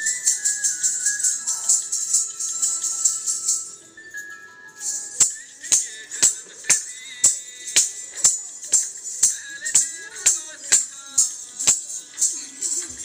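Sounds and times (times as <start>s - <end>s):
jingling percussion: 0.0s - 13.0s.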